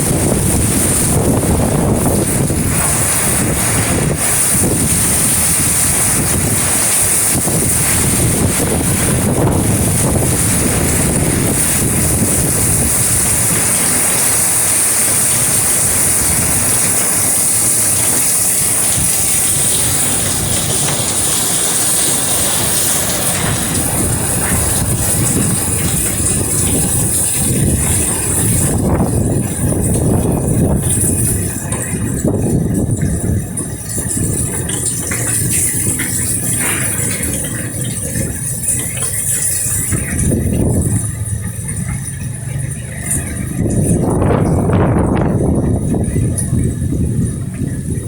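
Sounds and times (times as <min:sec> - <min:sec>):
wind blasting microphone: 0:00.0 - 0:48.0.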